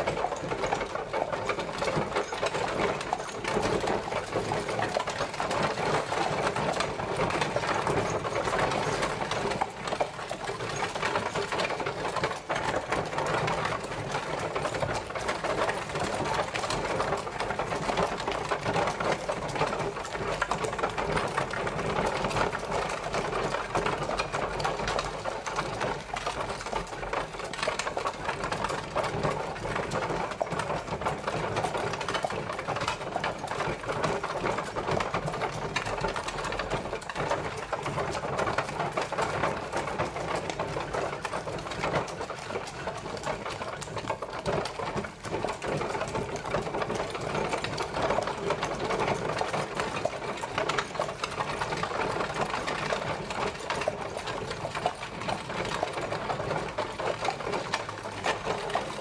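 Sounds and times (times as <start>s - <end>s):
horse-drawn carriage rattling: 0.0s - 59.0s.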